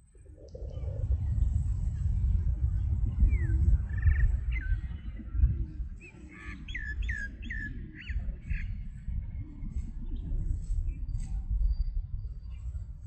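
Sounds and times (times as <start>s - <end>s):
steady deep rumble: 0.0s - 13.0s.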